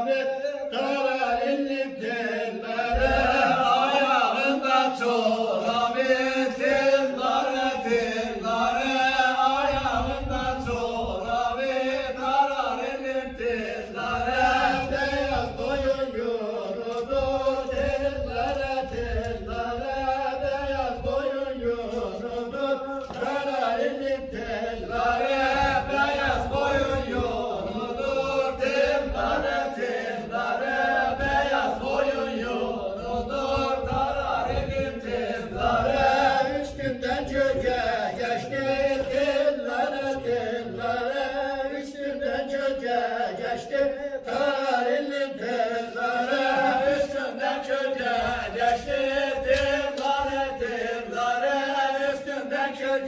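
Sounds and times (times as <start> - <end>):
men singing in unison: 0.0 - 53.0.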